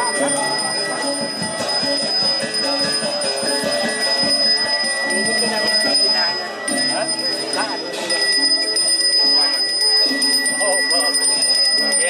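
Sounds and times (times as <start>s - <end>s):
ceremonial music: 0.0s - 12.0s
handbell ringing: 0.0s - 12.0s.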